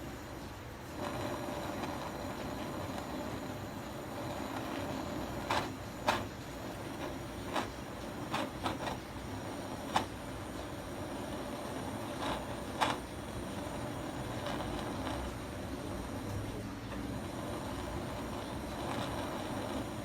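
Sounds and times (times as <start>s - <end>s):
gas torch flame: 0.0s - 20.0s.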